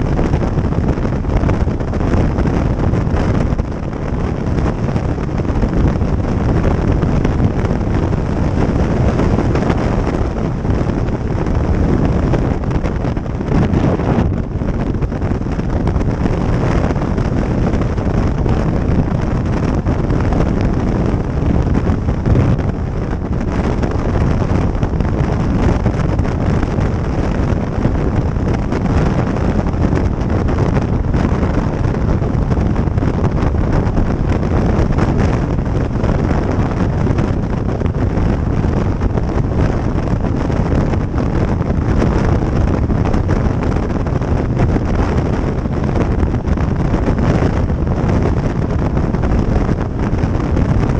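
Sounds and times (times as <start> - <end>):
motorcycle running: 0.0 - 50.9
wind rushing over microphone: 0.0 - 50.9.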